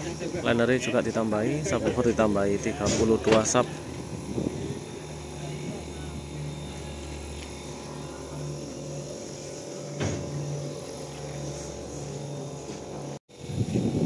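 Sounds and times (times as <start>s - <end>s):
engine humming: 0.0s - 13.2s.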